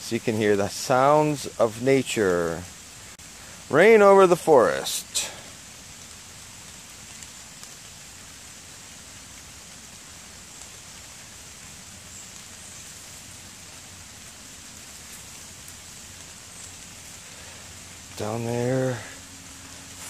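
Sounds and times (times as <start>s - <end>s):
rain falling on leaves: 0.0s - 20.0s.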